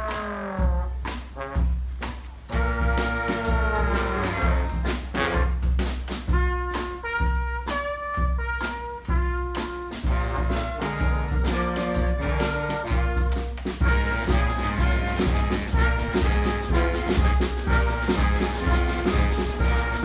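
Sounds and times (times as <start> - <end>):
brass band horns: 0.0 - 20.0
steady drum beat: 0.0 - 20.0.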